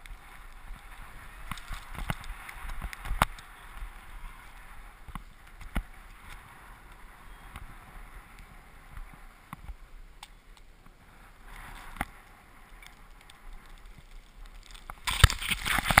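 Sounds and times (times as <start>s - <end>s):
skis scraping over snow: 0.0s - 10.0s, 10.8s - 16.0s.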